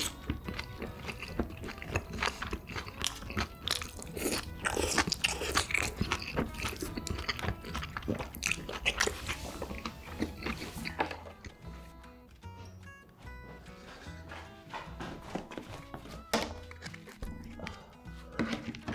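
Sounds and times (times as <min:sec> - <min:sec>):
chewing crisp food: 0:00.0 - 0:12.6, 0:13.4 - 0:18.9.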